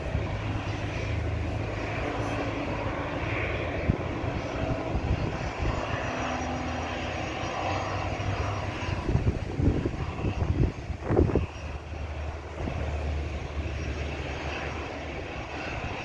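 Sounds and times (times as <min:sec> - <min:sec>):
distant jet engine noise: 0:00.0 - 0:16.0
wind buffeting microphone: 0:00.0 - 0:16.0.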